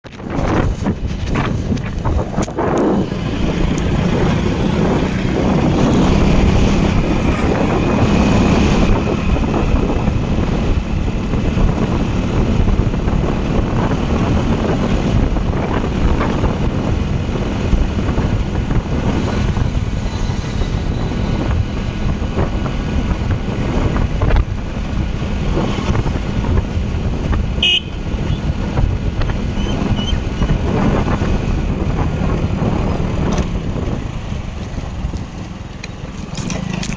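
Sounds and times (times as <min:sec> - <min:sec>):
wind and road noise: 0:00.0 - 0:36.9
low vehicle hum: 0:00.1 - 0:36.9.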